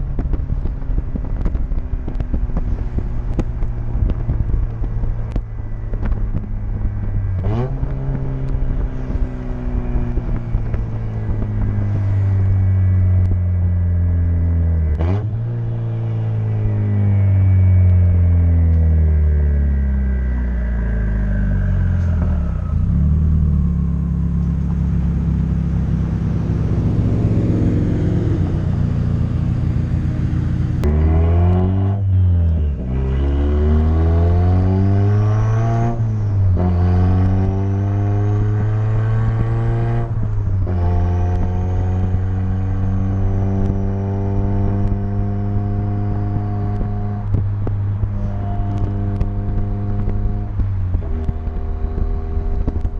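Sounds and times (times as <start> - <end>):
car engine revving through gears: 0.0 - 52.9.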